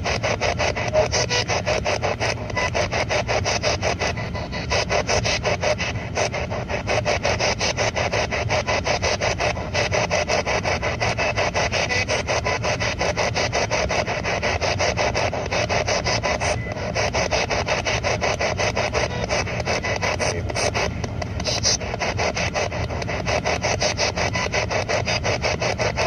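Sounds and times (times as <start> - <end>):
rasping radio static bursts: 0.0 - 26.0.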